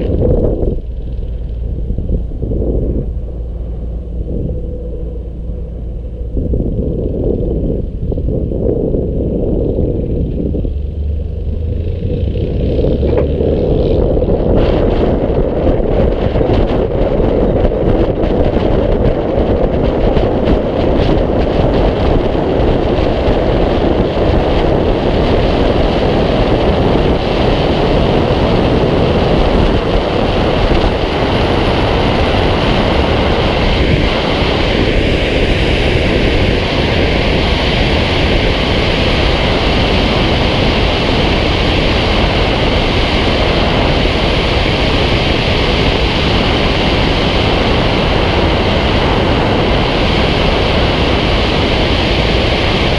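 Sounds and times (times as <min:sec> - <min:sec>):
wind rushing over microphone: 0:00.0 - 0:52.9.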